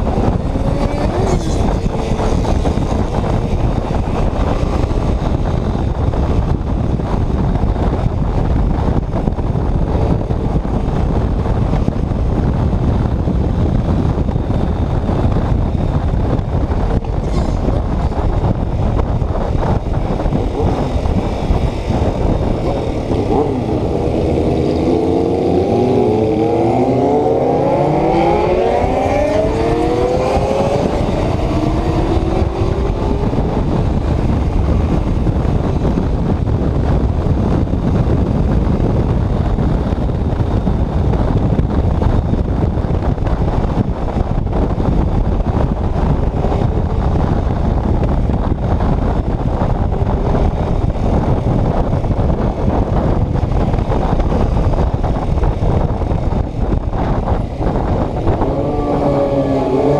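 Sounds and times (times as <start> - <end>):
motorcycle engine accelerating: 0.0 - 59.9
wind buffeting microphone: 0.0 - 59.9.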